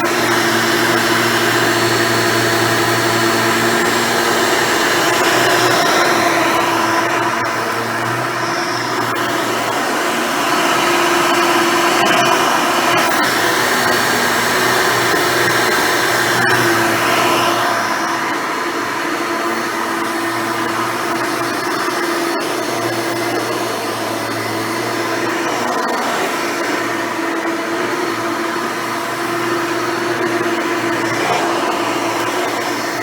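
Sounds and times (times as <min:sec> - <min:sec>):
upright vacuum cleaner running: 0:00.0 - 0:33.0.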